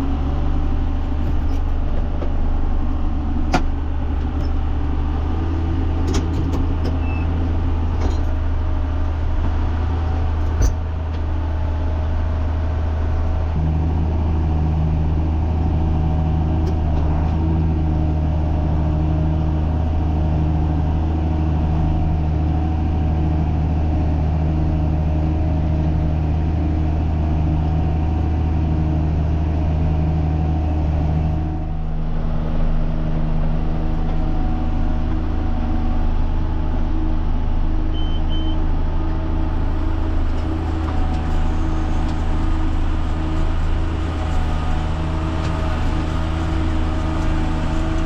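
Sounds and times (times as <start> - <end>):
tractor running under load: 0.0 - 48.0.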